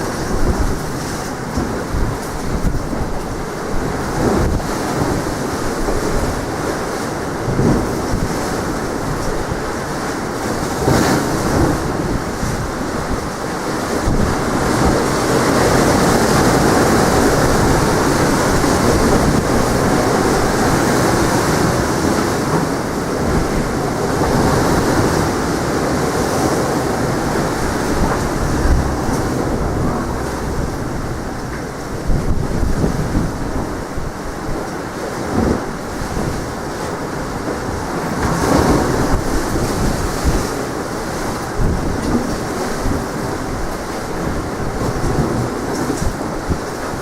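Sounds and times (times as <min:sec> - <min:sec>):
sea waves breaking: 0:00.0 - 0:47.0
wind buffeting microphone: 0:00.0 - 0:47.0.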